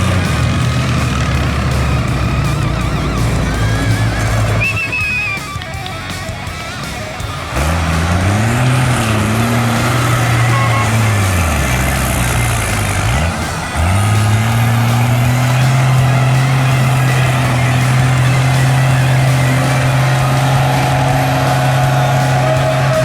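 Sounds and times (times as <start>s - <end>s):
truck engine revving under load: 0.0s - 23.0s.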